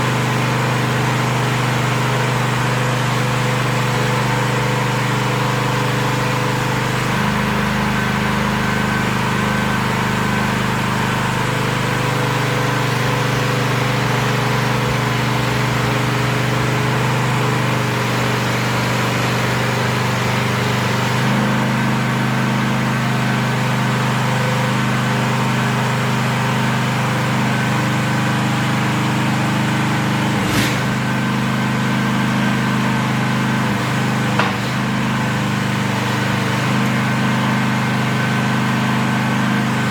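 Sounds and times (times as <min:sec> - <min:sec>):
small excavator engine running: 0:00.0 - 0:39.9.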